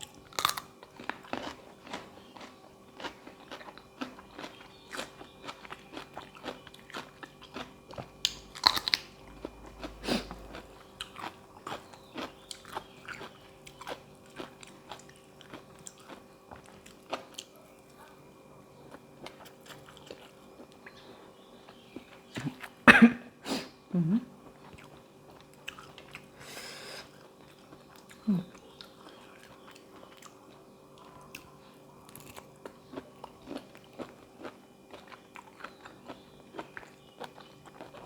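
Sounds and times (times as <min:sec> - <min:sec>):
person chewing crunchy food: 0:00.0 - 0:18.2, 0:18.8 - 0:22.8, 0:24.4 - 0:38.0.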